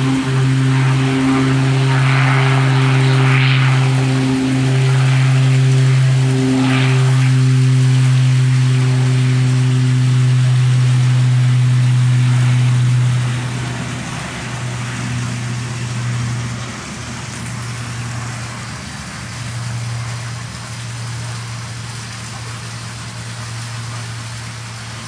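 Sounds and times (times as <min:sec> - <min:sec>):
rushing noise: 0:00.0 - 0:20.7
propeller aircraft engines droning: 0:00.0 - 0:25.0.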